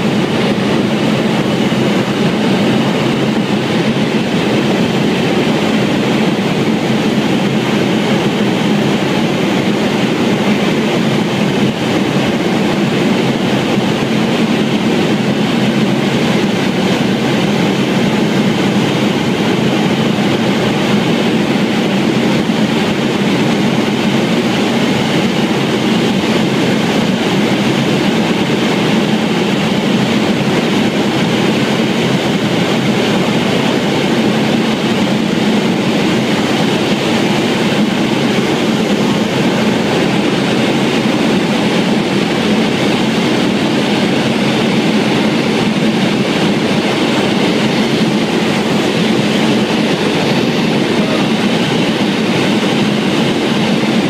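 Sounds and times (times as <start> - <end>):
turboprop engines humming in cabin: 0.0 - 54.0.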